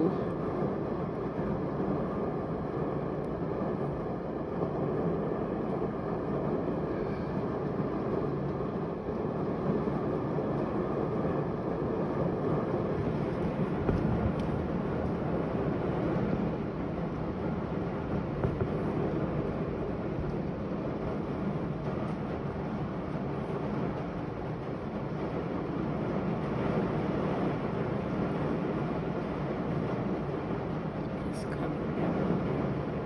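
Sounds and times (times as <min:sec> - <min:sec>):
steady rain: 0:00.0 - 0:33.0
wind: 0:00.0 - 0:33.0.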